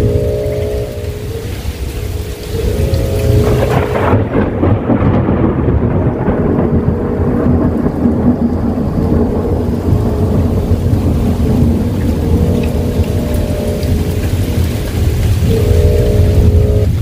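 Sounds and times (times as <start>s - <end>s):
heavy rain: 0.0s - 17.0s
thunder rumbling: 0.0s - 17.0s.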